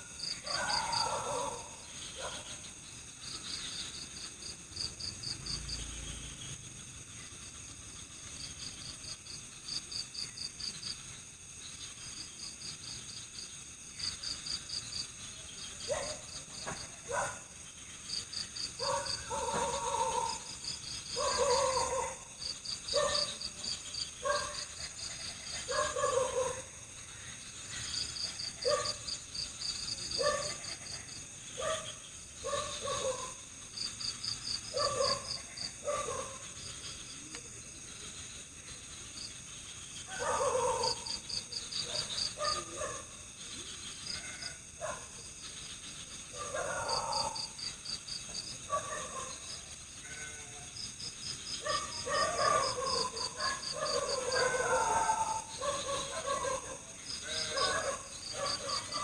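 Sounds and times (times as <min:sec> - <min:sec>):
cricket-like chirping trill: 0:00.0 - 0:59.0
frogs croaking: 0:00.0 - 0:59.0
insects humming: 0:00.0 - 0:59.0.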